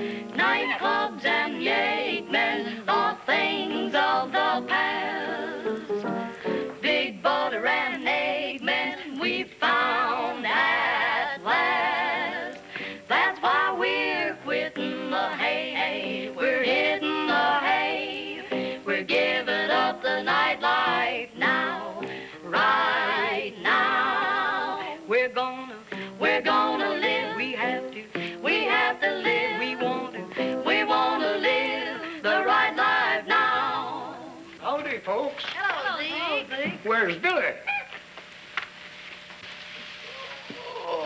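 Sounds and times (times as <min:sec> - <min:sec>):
women singing close harmony jazz: 0:00.0 - 0:34.6.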